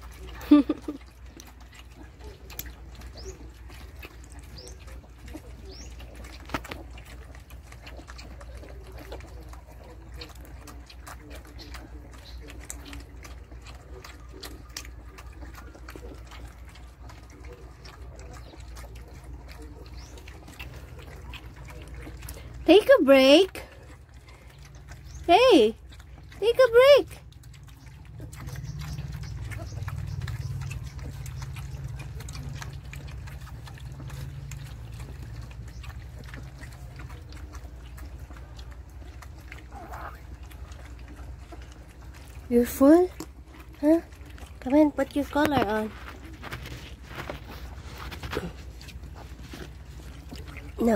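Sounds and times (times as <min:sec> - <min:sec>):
puppies lapping and slurping: 0:00.0 - 0:50.9.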